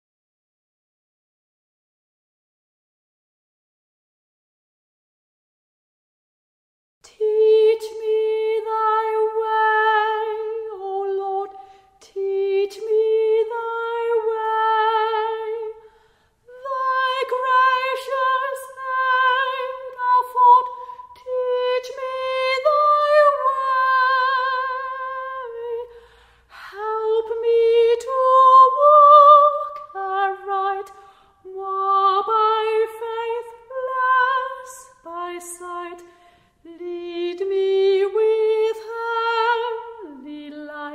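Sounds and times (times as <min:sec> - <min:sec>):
woman singing hymn unaccompanied: 0:07.0 - 0:15.9, 0:16.5 - 0:40.9.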